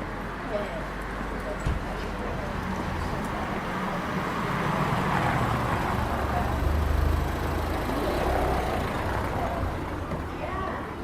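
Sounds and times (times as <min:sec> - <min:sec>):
street noise: 0:00.0 - 0:11.0
vehicle engine rumble: 0:00.0 - 0:11.0.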